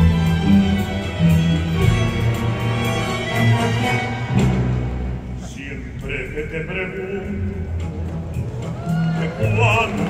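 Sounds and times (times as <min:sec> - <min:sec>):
orchestra playing: 0:00.0 - 0:10.0.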